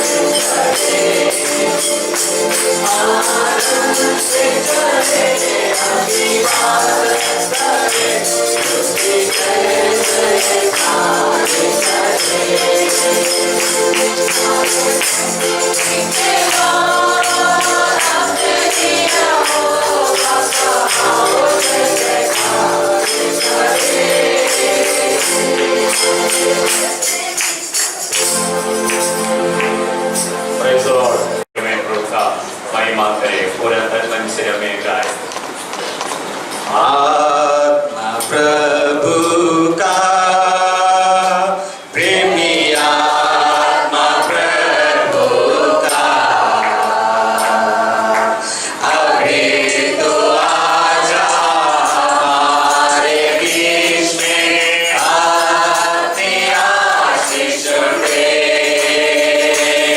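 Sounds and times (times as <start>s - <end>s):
group singing worship music: 0.0s - 31.4s, 36.2s - 59.9s
tambourine shaken: 0.0s - 31.5s, 38.1s - 59.9s.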